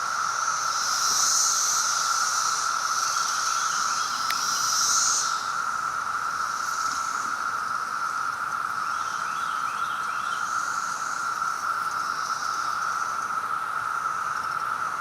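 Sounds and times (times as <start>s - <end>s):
cicadas droning: 0.0s - 15.0s
high-pitched cicada buzz: 0.0s - 15.0s.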